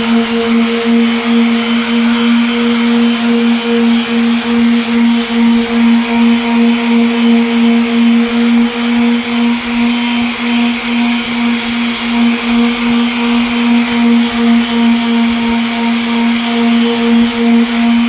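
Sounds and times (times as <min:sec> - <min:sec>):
electric sander on plastic: 0:00.0 - 0:18.0.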